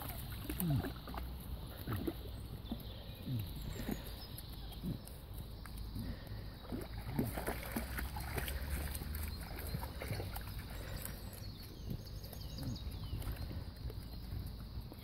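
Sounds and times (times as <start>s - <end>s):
dogs splashing in water: 0.0s - 14.7s.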